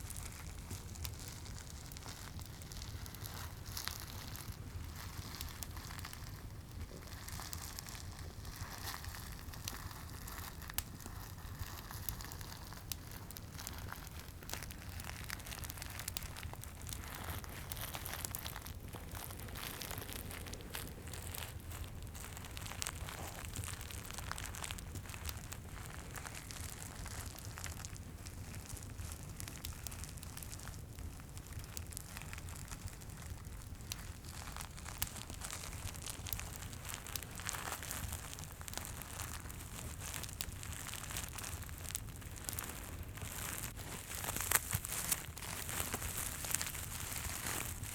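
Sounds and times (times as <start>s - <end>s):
low fireplace ambience: 0.0s - 47.9s
wrapper crinkling and crackling: 0.0s - 47.9s.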